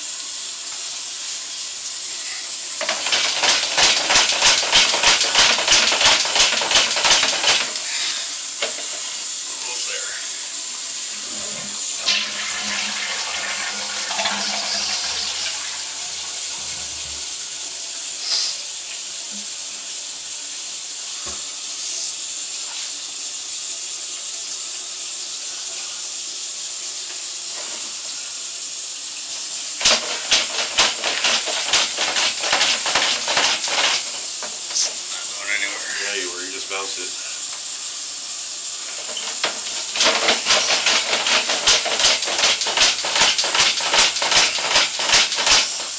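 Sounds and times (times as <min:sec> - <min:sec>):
water rushing in a sewer: 0:00.0 - 0:45.9.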